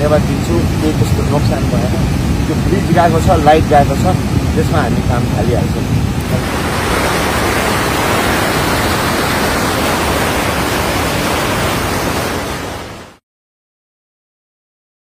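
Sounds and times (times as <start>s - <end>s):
floodwater rushing: 0.0s - 13.2s.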